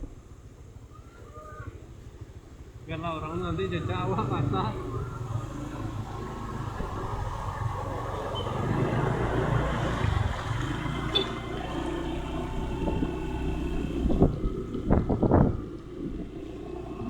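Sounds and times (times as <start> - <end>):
engine running: 1.8 - 17.0.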